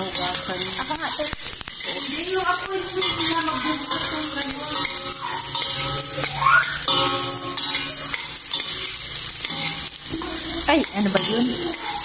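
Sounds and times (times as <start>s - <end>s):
onions sizzling in hot oil: 0.0s - 12.0s
spoon stirring and scraping pot: 0.0s - 12.0s.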